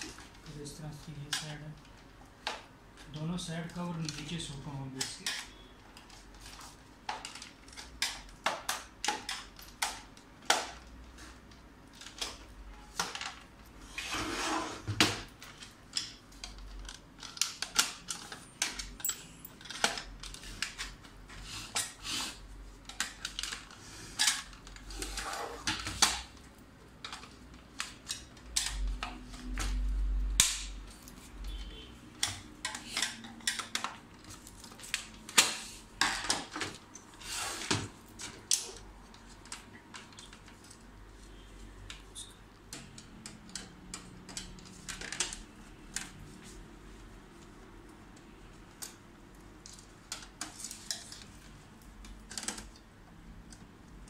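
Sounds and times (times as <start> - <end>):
plastic covers clicking and snapping: 0.0 - 13.6, 15.0 - 22.0, 22.7 - 37.1, 37.7 - 46.6, 47.4 - 54.0.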